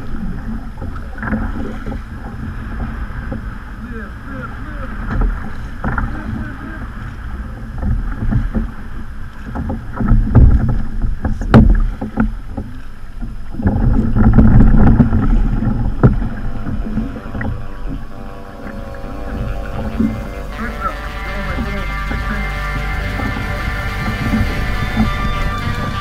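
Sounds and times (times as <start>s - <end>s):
water splashing against kayak hull: 0.0s - 26.0s
rumbling thuds: 4.9s - 26.0s.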